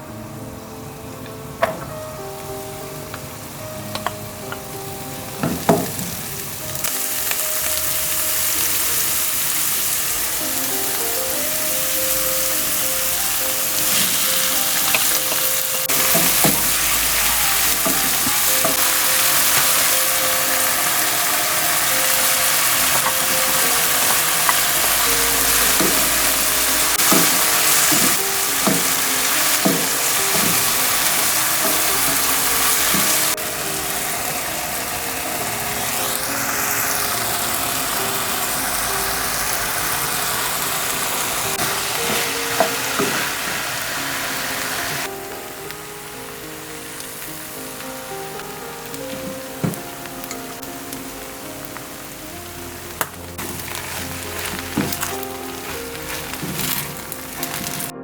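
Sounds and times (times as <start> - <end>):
rice sizzling in a pan: 0.0 - 58.0.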